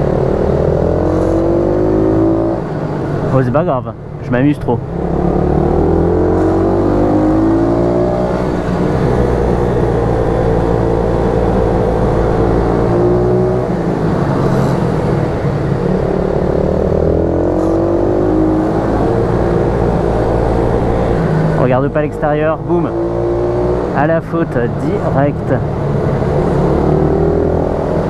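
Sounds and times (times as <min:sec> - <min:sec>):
motorcycle engine revving: 0:00.0 - 0:02.9, 0:04.8 - 0:24.3, 0:25.0 - 0:28.0.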